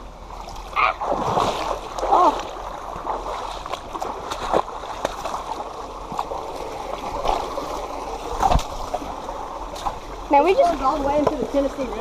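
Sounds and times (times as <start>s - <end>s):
creek water running: 0.0s - 12.0s
splashes from wading: 0.4s - 12.0s.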